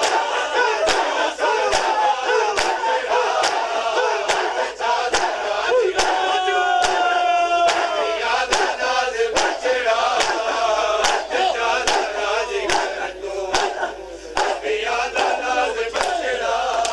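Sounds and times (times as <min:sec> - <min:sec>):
men chanting and shouting: 0:00.0 - 0:16.9
men striking chests in unison: 0:00.0 - 0:16.9.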